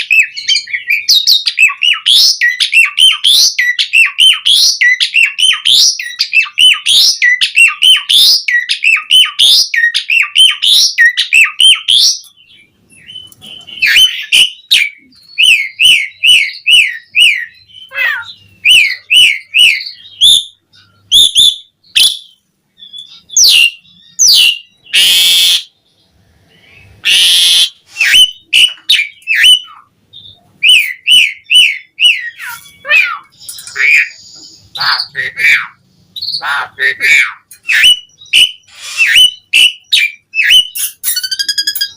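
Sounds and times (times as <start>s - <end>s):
starling whistled song: 0.0s - 12.3s, 12.9s - 25.7s, 26.6s - 35.2s, 37.6s - 41.9s
harsh rasping bird calls: 0.0s - 41.9s.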